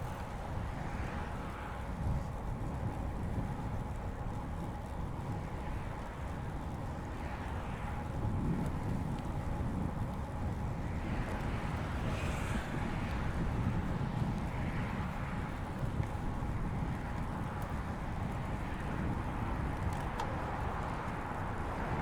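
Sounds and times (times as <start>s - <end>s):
bicycle tyre noise: 0.0s - 22.0s
wind buffeting microphone: 0.0s - 22.0s.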